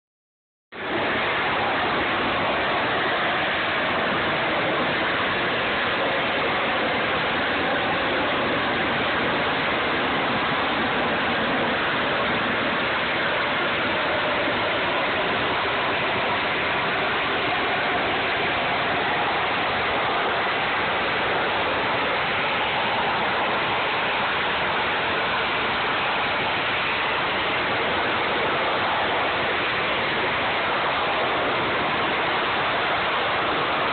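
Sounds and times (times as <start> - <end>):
jet engine roaring: 0.8 - 33.9.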